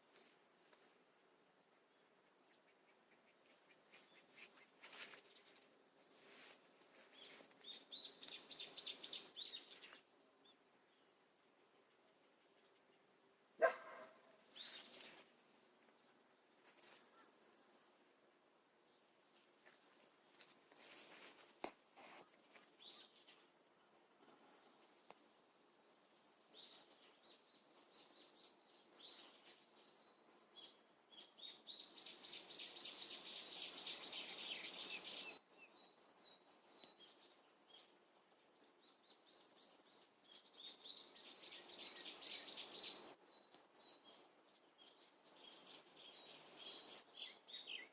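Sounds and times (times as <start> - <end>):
wild birds chirping: 0.0 - 47.9.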